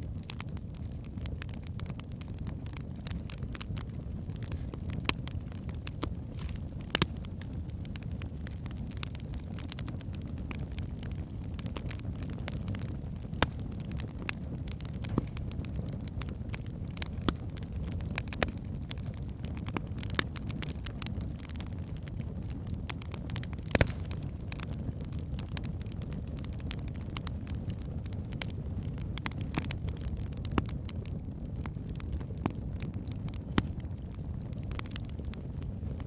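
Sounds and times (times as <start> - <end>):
flames rumbling: 0.0 - 36.0
logs crackling and popping: 0.0 - 36.0.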